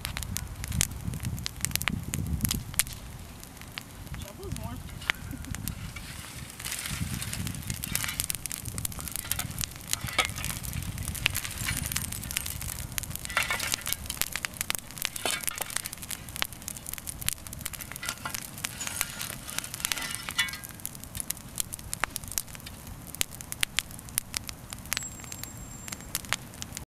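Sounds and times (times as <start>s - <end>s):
burning wood popping and snapping: 0.0s - 26.8s
low rush of fire: 0.0s - 26.8s.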